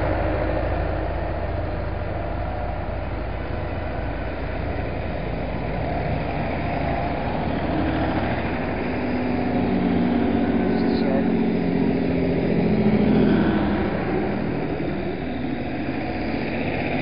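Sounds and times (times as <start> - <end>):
higher engine hum: 0.0 - 17.0
tractor engines rumbling: 0.0 - 17.0.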